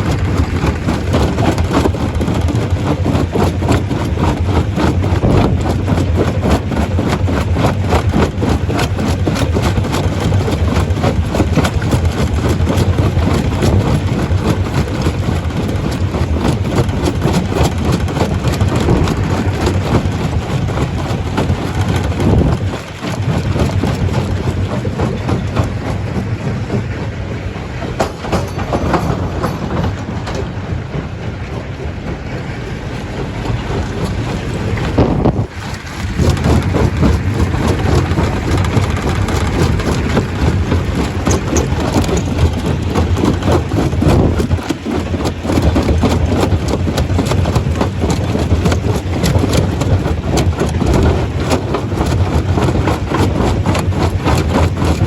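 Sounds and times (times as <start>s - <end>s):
stone crusher crushing rock: 0.0s - 31.4s, 32.1s - 55.0s.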